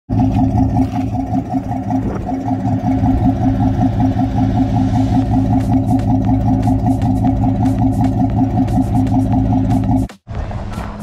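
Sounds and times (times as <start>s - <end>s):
engine idling: 0.1s - 11.0s.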